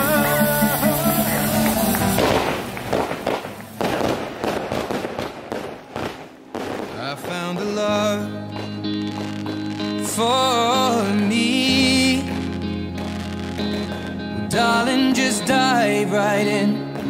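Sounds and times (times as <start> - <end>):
background music: 0.0 - 17.0
fireworks crackling and banging: 0.0 - 17.0.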